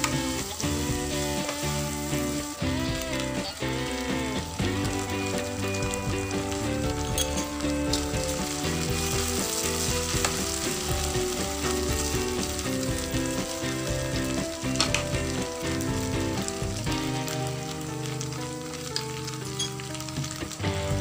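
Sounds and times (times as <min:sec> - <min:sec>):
background music: 0:00.0 - 0:21.0
food sizzling in a frying pan: 0:00.0 - 0:21.0.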